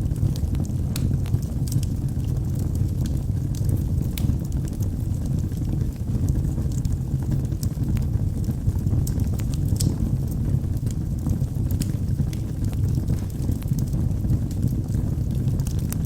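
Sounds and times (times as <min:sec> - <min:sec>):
burning wood crackling and popping: 0:00.0 - 0:16.0
low rumble of flames: 0:00.0 - 0:16.0.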